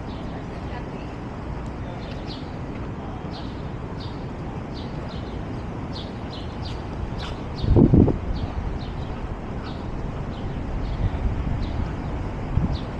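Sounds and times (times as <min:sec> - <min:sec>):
low city rumble: 0:00.0 - 0:12.9.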